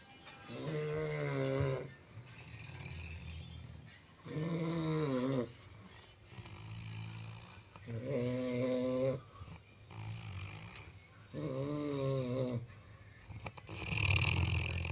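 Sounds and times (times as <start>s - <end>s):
long pitched snores: 0.5s - 5.6s, 6.3s - 12.7s, 13.4s - 14.9s
rasping breath: 0.6s - 14.9s.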